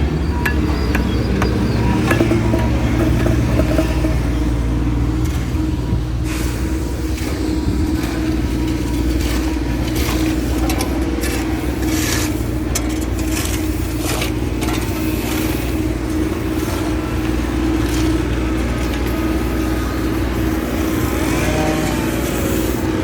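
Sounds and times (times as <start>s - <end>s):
road machinery engine running: 0.0s - 23.0s
scraping noises: 0.4s - 23.0s.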